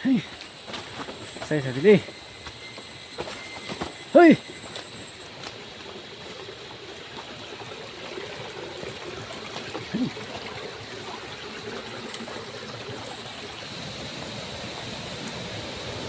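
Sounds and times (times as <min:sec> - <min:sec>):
stream water trickling: 0:00.1 - 0:16.0.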